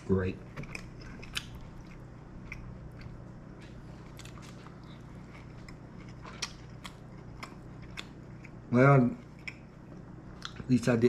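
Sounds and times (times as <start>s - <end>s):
person chewing food: 0.5s - 10.7s.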